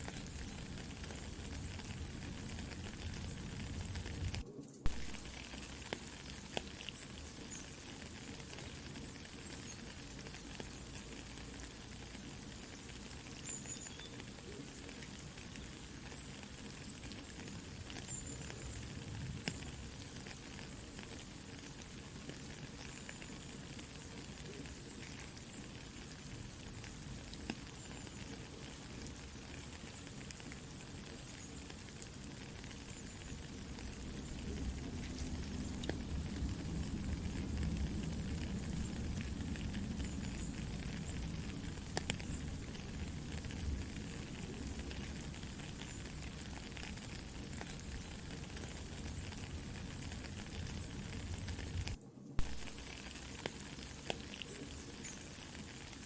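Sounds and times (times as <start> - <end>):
campfire crackling: 0.0 - 56.0
soft rain hiss: 0.0 - 56.0.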